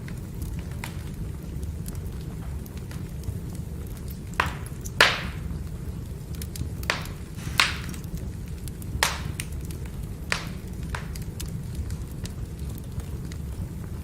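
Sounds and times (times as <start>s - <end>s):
firewood crackling and popping: 0.0s - 14.0s
low rumble of fire: 0.0s - 14.0s.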